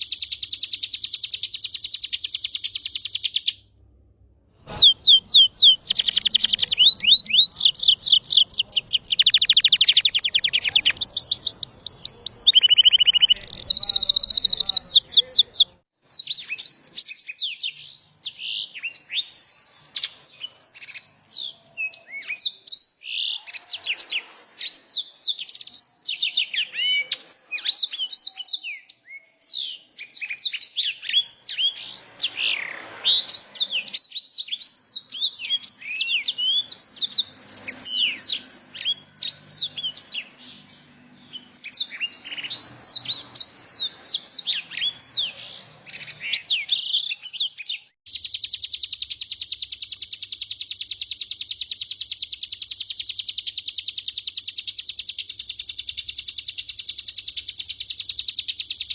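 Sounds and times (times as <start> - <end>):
songbird twittering: 0.0 - 3.7, 4.7 - 58.9.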